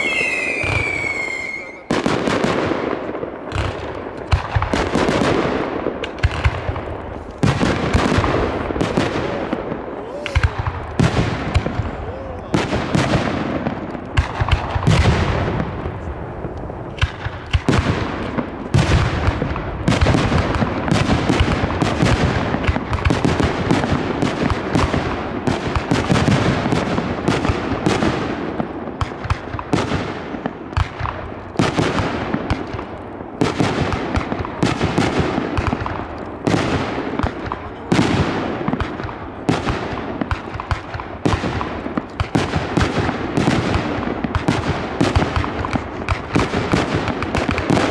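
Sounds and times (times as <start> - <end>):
rumble of firework bursts: 0.0 - 47.9.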